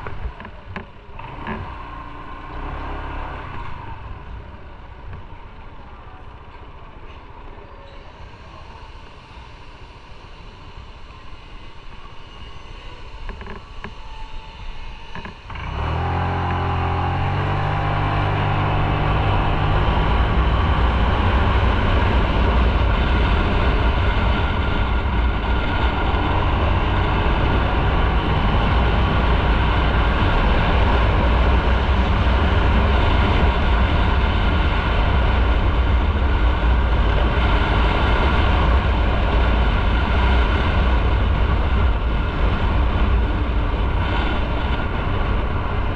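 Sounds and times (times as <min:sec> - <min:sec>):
motorcycle engine accelerating: 0:00.0 - 0:05.7, 0:13.0 - 0:45.9
road and wind noise: 0:00.0 - 0:45.9.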